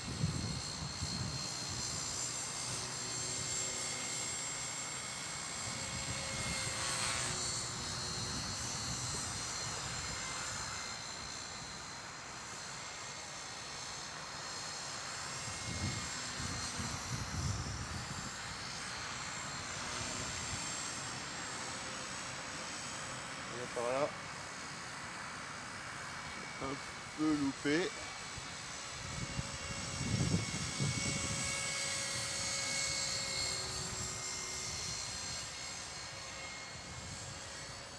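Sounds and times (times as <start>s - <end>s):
rc helicopter motor whine: 0.0s - 37.9s.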